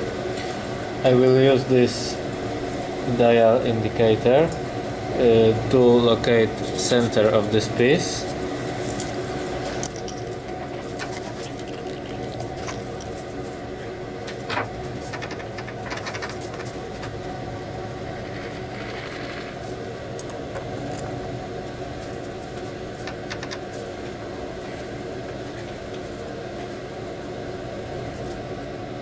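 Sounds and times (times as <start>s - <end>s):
machine motor humming: 0.0s - 29.0s.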